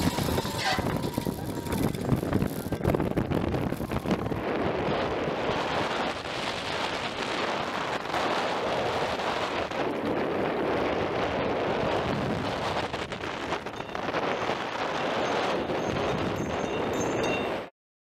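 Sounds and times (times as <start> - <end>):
roller coaster rolling on track: 0.0 - 17.6
wind rushing across microphone: 0.0 - 17.7.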